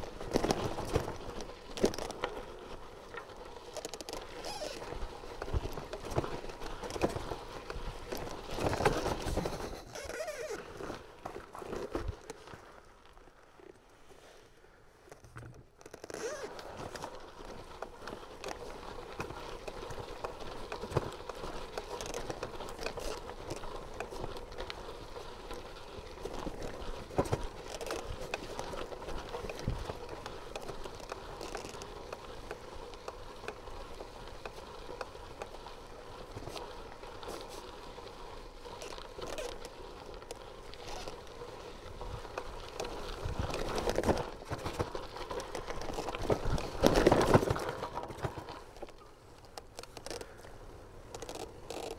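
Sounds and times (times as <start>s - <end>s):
tyres crunching on gravel: 0.0s - 13.5s, 16.1s - 51.9s
bicycle rattling: 0.0s - 13.7s, 15.6s - 51.9s.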